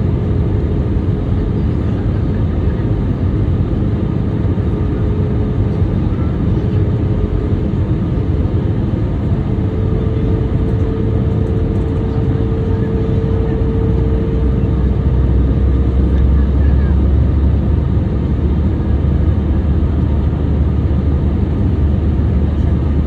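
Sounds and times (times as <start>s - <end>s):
jet engines and airflow roar: 0.0s - 23.0s.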